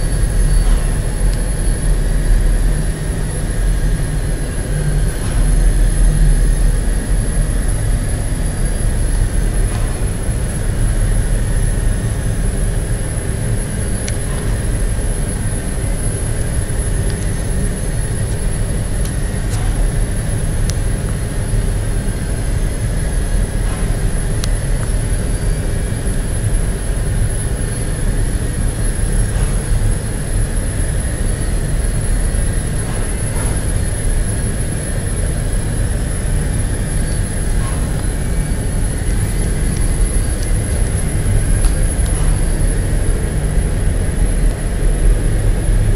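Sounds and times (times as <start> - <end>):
industrial machinery drone: 0.0 - 45.9
thin high whine: 0.0 - 45.9.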